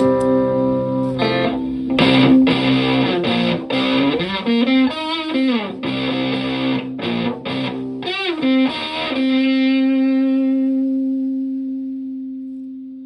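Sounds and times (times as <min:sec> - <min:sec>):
fuzz electric guitar notes: 0:00.0 - 0:13.0.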